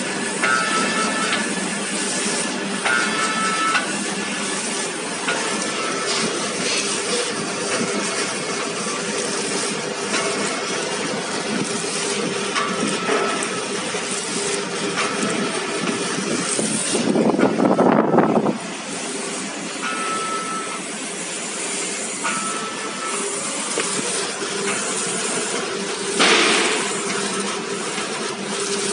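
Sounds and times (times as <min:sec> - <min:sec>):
packaging machine running: 0:00.0 - 0:28.9.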